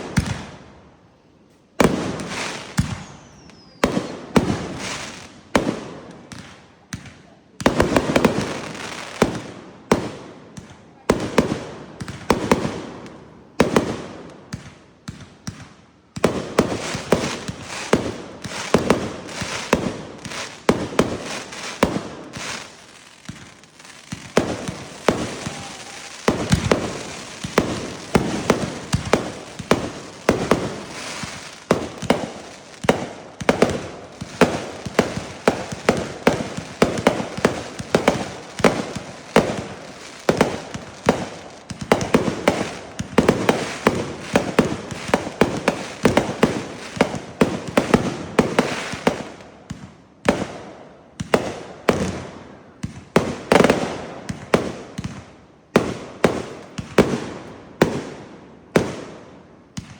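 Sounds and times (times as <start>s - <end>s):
fireworks bangs: 0.0s - 0.6s, 1.8s - 59.9s.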